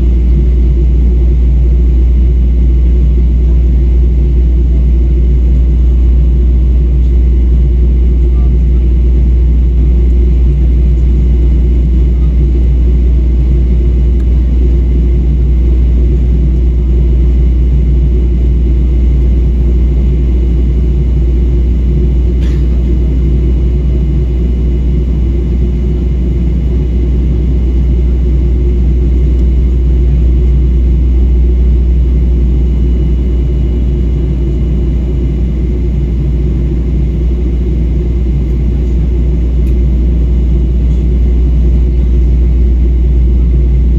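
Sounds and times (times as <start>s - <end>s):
jet airliner cabin drone: 0.0s - 43.9s.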